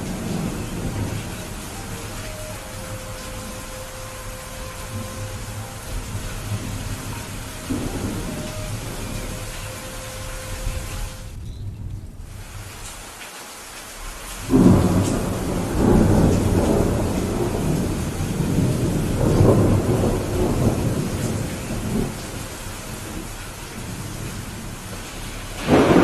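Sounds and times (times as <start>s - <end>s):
thunder rolling: 0.0s - 12.7s, 14.4s - 26.0s
steady rain: 0.0s - 26.0s.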